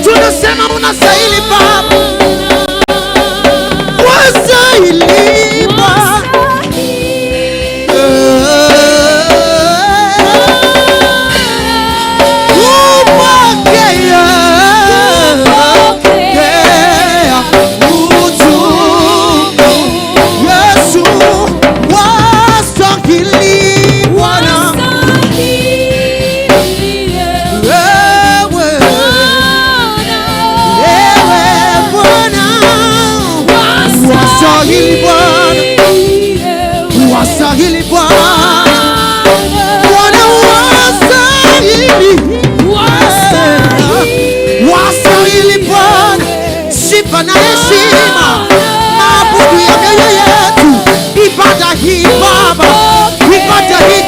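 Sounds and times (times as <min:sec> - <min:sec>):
gospel singing: 0:00.0 - 0:54.0
instrumental accompaniment: 0:00.0 - 0:54.0
live worship band: 0:00.0 - 0:54.0.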